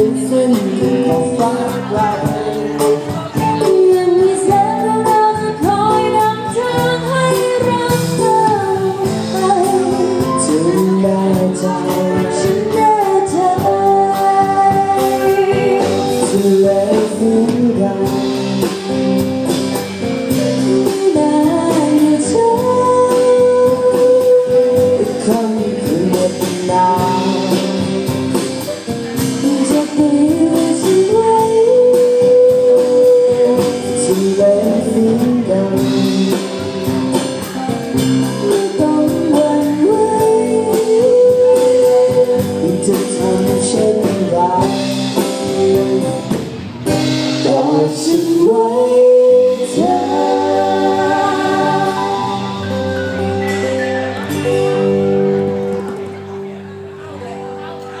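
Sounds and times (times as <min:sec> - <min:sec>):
woman singing: 0:00.0 - 0:19.6, 0:20.3 - 0:28.4, 0:29.2 - 0:46.4, 0:47.0 - 0:52.8
acoustic guitar: 0:00.0 - 0:58.0
drum kit: 0:00.0 - 0:58.0
electric guitar: 0:00.0 - 0:58.0.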